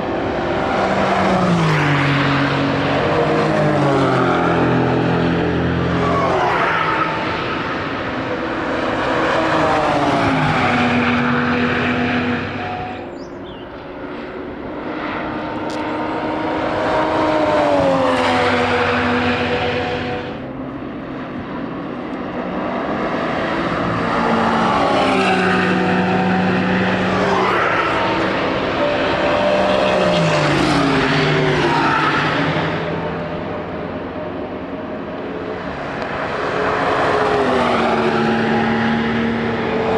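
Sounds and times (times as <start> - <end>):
race cars passing at speed: 0.0 - 39.9.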